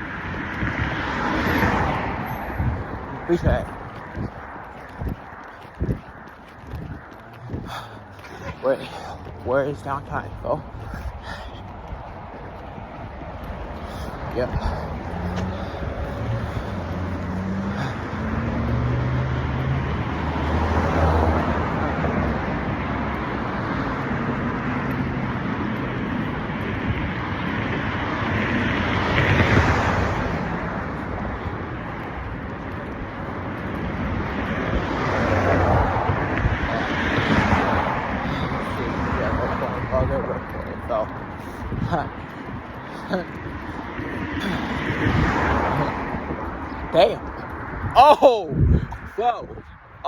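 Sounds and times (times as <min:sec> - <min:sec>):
passing road traffic: 0:00.0 - 0:50.0.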